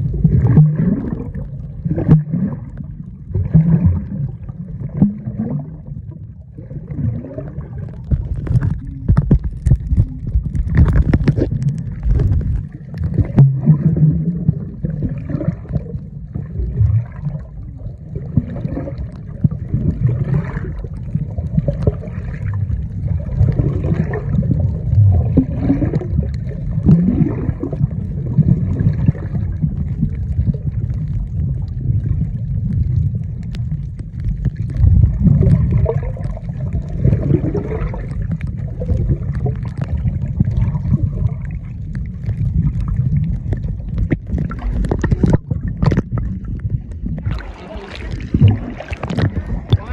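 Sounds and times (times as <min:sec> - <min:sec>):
muffled underwater rumble: 0:00.0 - 0:49.9.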